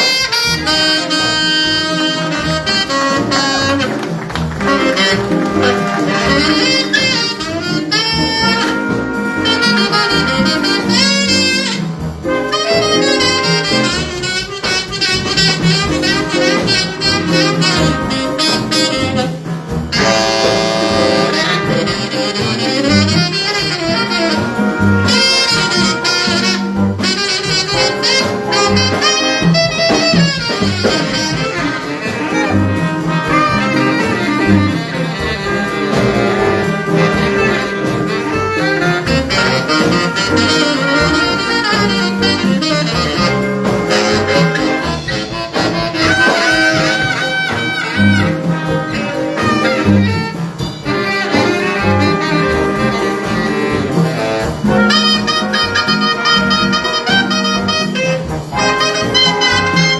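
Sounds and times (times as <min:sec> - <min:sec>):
jazz ensemble playing: 0:00.0 - 0:59.9.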